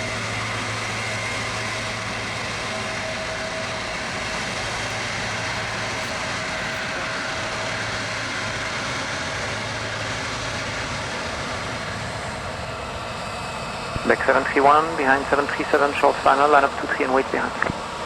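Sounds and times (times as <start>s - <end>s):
faint steady whine: 0.0s - 18.0s
jet engines running: 0.0s - 18.0s.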